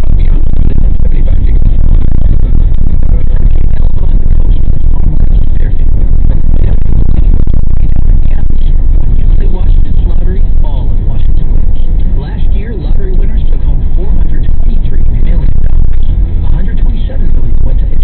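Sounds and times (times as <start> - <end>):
car driving rumble: 0.0 - 18.0
car radio playing: 0.0 - 18.0.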